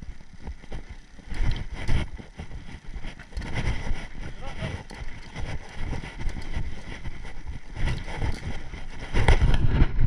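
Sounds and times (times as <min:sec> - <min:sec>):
bike rattling over rough trail: 0:00.0 - 0:10.0
wind buffeting microphone: 0:00.0 - 0:10.0.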